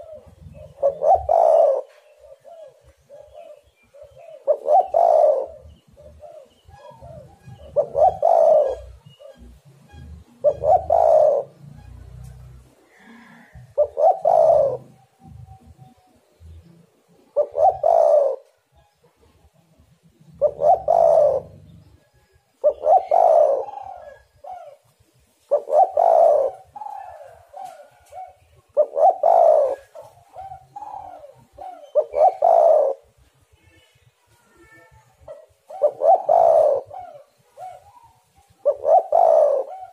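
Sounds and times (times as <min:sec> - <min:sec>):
dove cooing: 0:00.0 - 0:33.2, 0:34.7 - 0:39.9.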